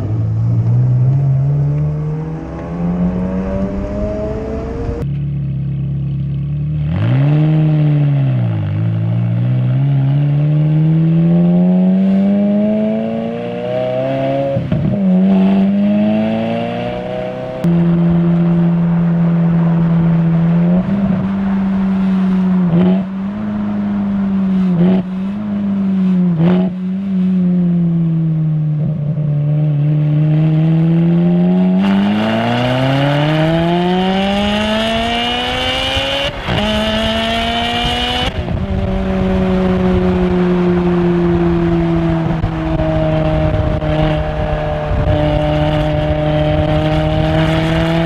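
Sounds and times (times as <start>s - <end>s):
car engine accelerating and cruising: 0.0s - 48.0s.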